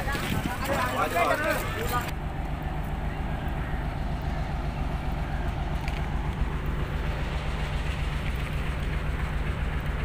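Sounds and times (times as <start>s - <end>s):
locomotive idling: 0.0s - 10.0s.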